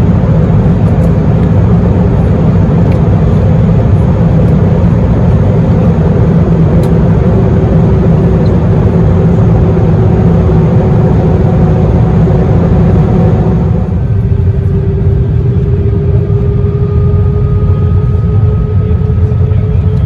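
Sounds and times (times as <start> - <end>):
airplane cabin rumble: 0.0 - 20.0
faint engine hum: 0.0 - 20.0.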